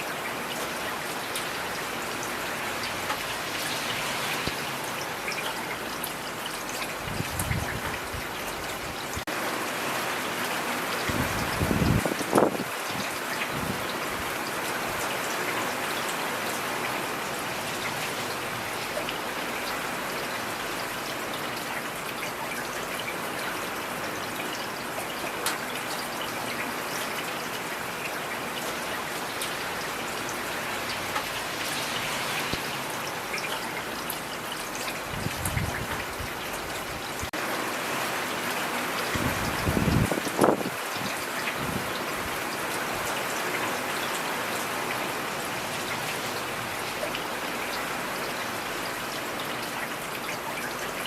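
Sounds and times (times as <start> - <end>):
raindrops ticking on a surface: 0.0 - 51.0
steady rain falling: 0.0 - 51.0.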